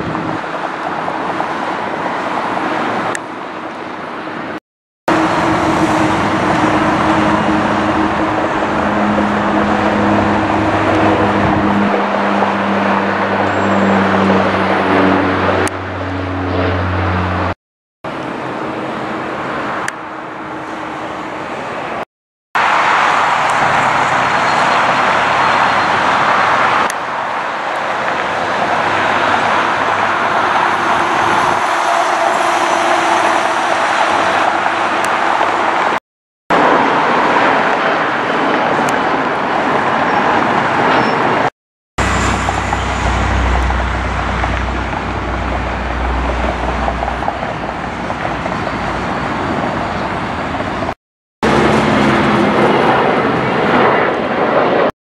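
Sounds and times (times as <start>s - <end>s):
jet airliner engine roar: 0.0s - 22.0s, 22.6s - 54.9s.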